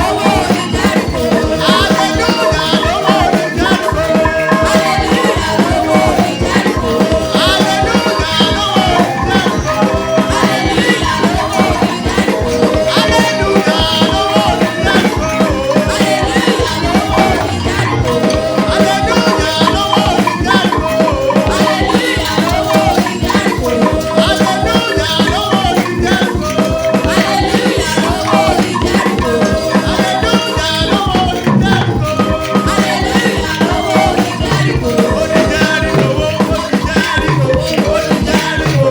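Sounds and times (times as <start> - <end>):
shaker rhythm: 0.0 - 38.9
singing over a band: 0.0 - 38.9.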